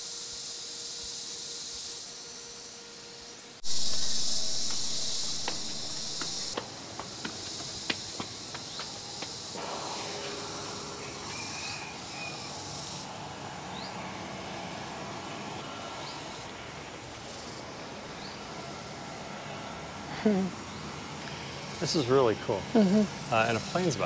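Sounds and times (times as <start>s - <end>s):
insects buzzing drone: 0.0s - 24.0s.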